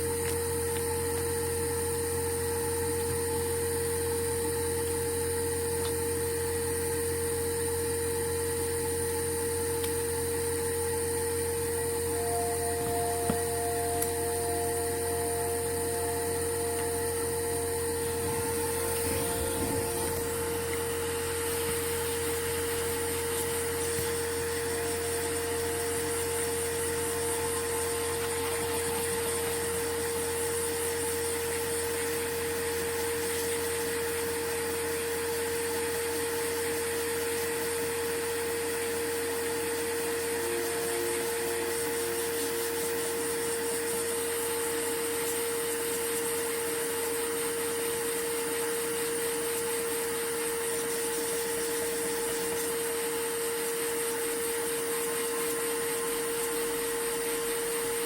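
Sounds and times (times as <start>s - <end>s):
small motor whirring: 0.0s - 58.0s.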